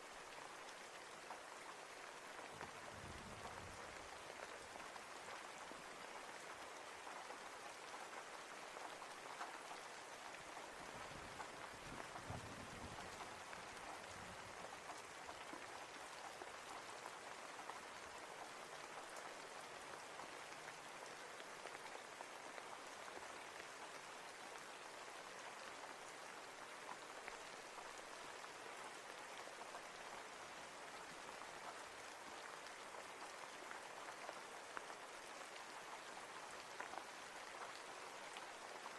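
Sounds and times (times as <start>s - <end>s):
raindrops ticking on a surface: 0.0s - 38.9s
steady rainfall hiss: 0.0s - 38.9s.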